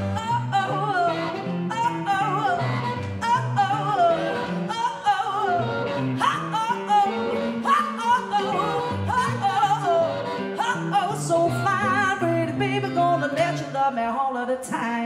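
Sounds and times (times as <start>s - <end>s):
jazz band playing blues: 0.0s - 13.7s
person singing: 0.0s - 15.0s.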